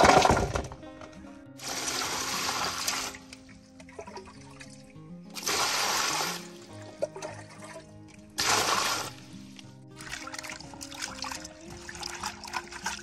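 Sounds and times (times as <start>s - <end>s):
background music: 0.0s - 13.0s
water splashing into metal basin: 1.6s - 9.3s, 9.9s - 13.0s.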